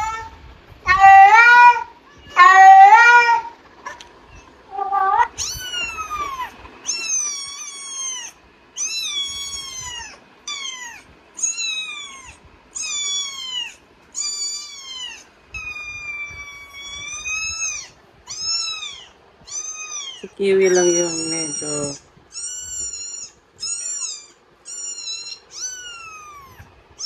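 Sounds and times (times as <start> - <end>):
high-pitched kitten-like meows: 0.0 - 3.6, 4.3 - 27.0.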